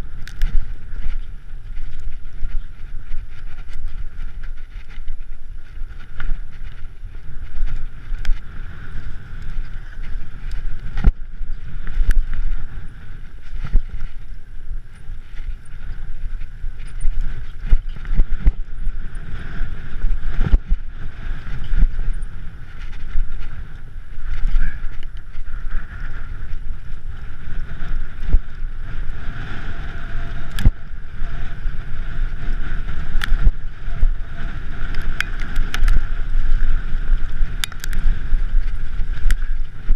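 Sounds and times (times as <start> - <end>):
bike tyres rattling over stones: 0.0 - 39.9.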